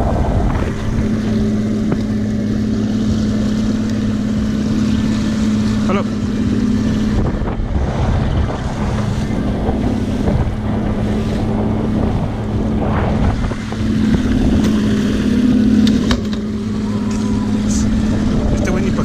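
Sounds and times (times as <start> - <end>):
motorboat engine humming: 0.0 - 19.0
water noise: 0.0 - 19.0
wind on microphone: 0.0 - 19.0.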